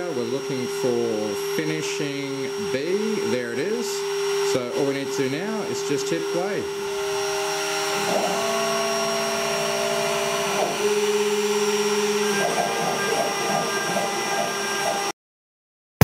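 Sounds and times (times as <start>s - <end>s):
router spindle whining: 0.0s - 15.1s
stepper motors humming: 0.0s - 15.1s.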